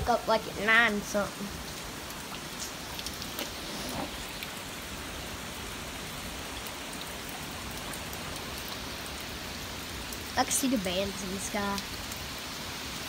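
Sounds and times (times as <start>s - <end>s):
wind-driven heavy rain hiss: 0.0s - 13.0s.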